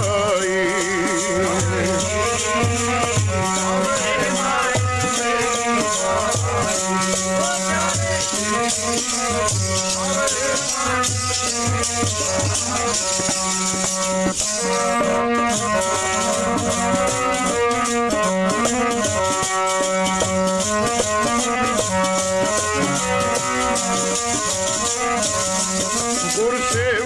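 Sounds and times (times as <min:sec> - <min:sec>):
instrumental melody of held notes: 0:00.0 - 0:27.0
steady jingling rattle: 0:00.0 - 0:27.0.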